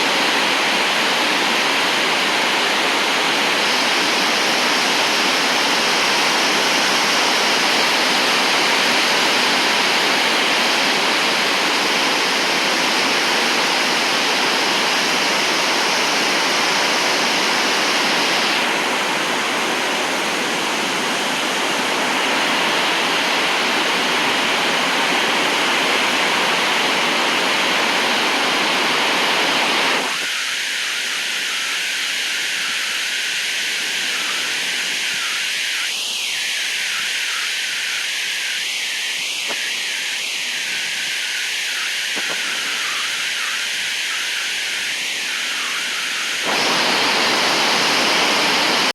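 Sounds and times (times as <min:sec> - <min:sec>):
heavy rain pouring: 0:00.0 - 0:30.2, 0:38.2 - 0:48.9.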